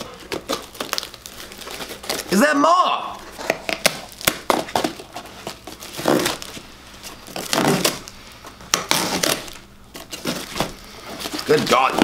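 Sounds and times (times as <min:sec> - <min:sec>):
paper crinkling: 0:00.0 - 0:02.5, 0:03.2 - 0:12.0.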